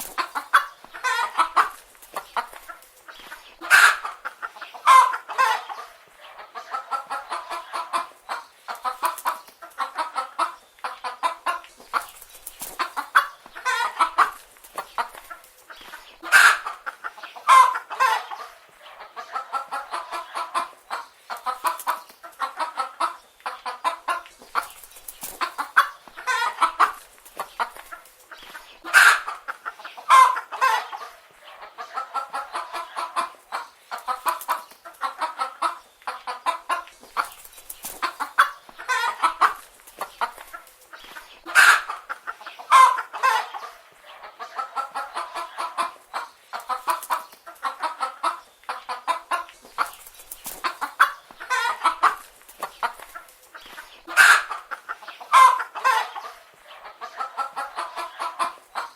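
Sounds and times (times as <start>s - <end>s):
hens clucking: 0.0s - 58.9s.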